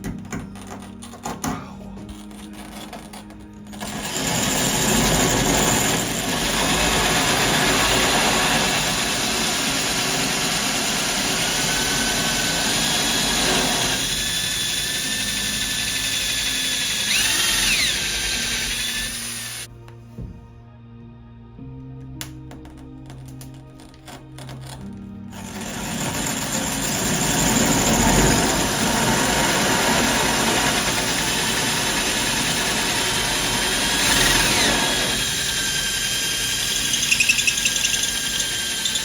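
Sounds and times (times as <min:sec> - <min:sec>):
power drill grinding through tile: 0:02.0 - 0:19.7, 0:24.8 - 0:39.0.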